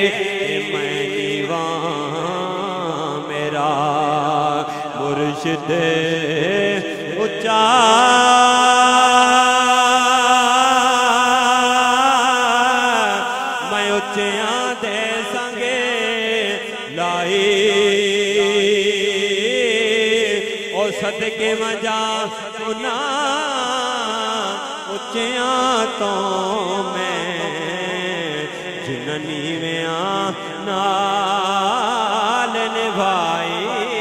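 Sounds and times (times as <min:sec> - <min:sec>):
man singing into microphone: 0:00.0 - 0:34.0.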